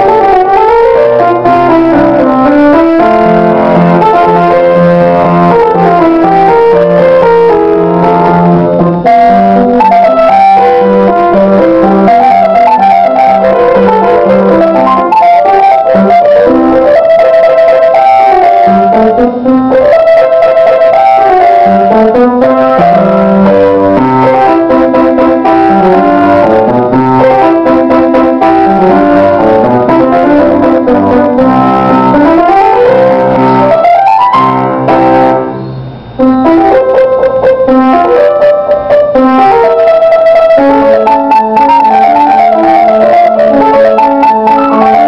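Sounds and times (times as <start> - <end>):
grand piano playing: 0.0 - 45.0.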